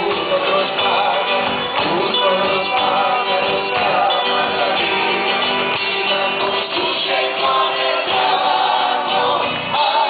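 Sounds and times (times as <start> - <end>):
acoustic guitars playing: 0.0 - 10.0
bass guitar: 0.0 - 10.0
man singing: 0.0 - 10.0.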